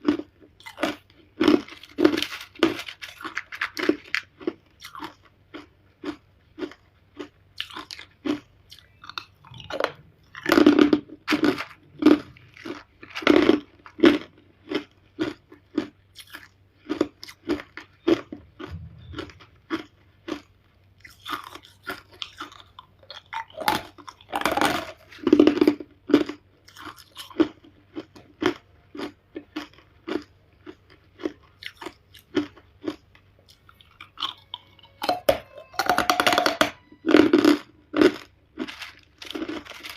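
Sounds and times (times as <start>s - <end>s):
chewing hard ice: 0.0s - 36.4s, 37.0s - 39.9s.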